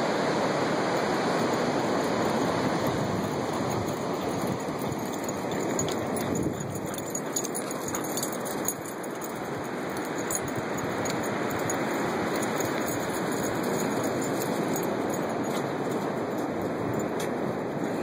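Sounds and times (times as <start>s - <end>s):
ocean surf rushing: 0.0s - 18.0s.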